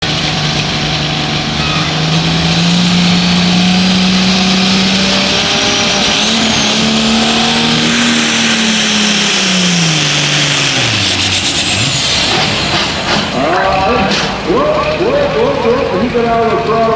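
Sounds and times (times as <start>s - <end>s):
heavy rushing noise: 0.0s - 16.9s
tractor engine at high revs: 0.0s - 16.9s.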